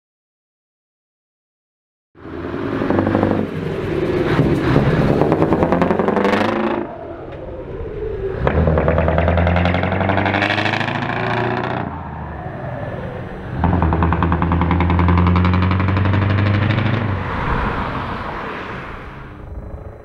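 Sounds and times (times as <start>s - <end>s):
truck engine revving: 2.2s - 7.3s, 8.3s - 20.0s.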